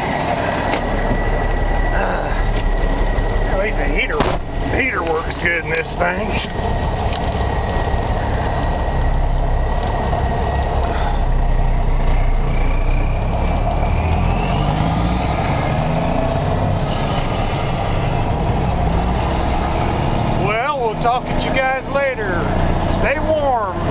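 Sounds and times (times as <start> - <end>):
high turbo whistle: 0.0 - 22.8
diesel engine pulling under load: 0.0 - 23.9.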